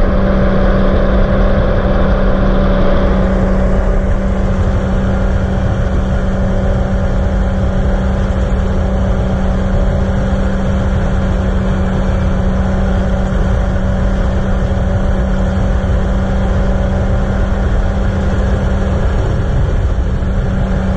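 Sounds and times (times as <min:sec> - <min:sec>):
aircraft engine and propeller drone: 0:00.0 - 0:20.9
rushing wind: 0:00.0 - 0:20.9.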